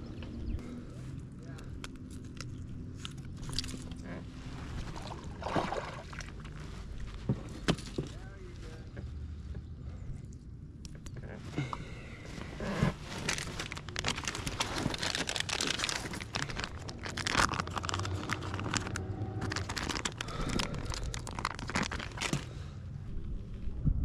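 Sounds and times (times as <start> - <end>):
crinkling and rustling: 1.0 - 5.4, 6.0 - 9.2, 10.9 - 23.8.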